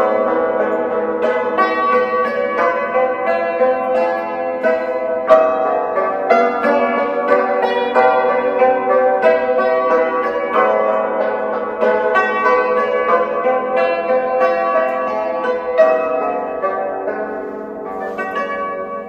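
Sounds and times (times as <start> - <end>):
hammered dulcimer melody: 0.0 - 19.0.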